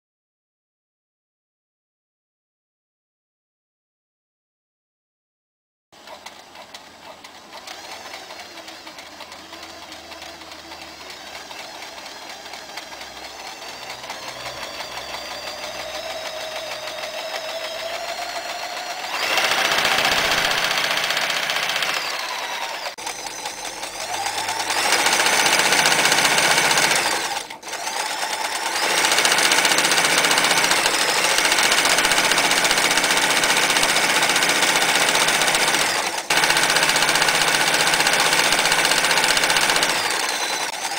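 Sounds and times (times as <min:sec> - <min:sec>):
electric sewing machine stitching: 0:06.0 - 0:40.9.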